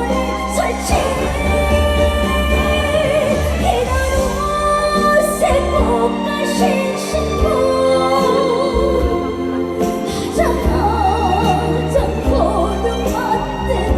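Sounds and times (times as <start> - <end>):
amplified band backing: 0.0 - 13.9
woman singing with vibrato: 0.0 - 13.9.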